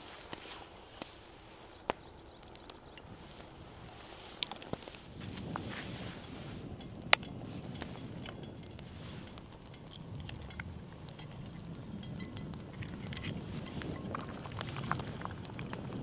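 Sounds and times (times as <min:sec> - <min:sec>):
wood fire crackling: 0:00.0 - 0:16.0
egg sizzling in oil: 0:00.9 - 0:16.0.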